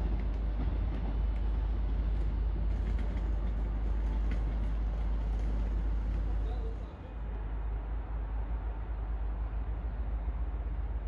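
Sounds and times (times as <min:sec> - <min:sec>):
train engine and wheels rumbling: 0:00.0 - 0:11.0.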